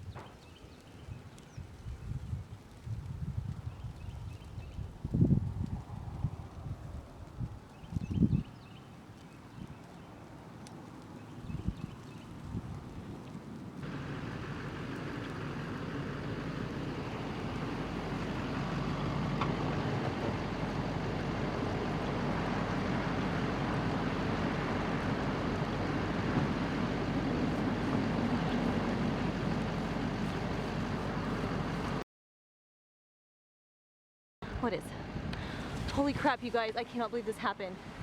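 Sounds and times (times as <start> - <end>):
engine running with rushing noise: 0.1 - 32.0, 34.4 - 38.0.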